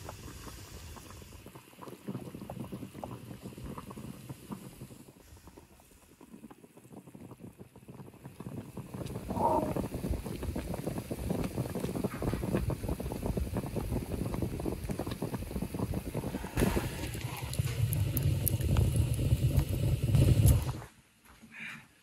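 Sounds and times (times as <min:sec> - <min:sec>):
water boiling in a wok: 0:00.0 - 0:20.9.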